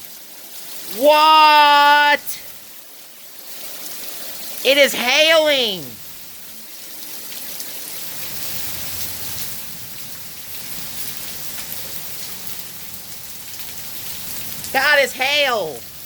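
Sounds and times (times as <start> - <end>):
rain and hail falling: 0.0 - 16.0.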